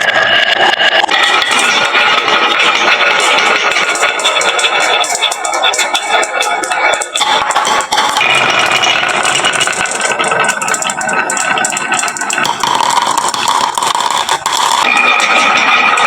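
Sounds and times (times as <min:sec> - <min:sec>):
glass marbles clattering down wood: 0:00.5 - 0:16.0.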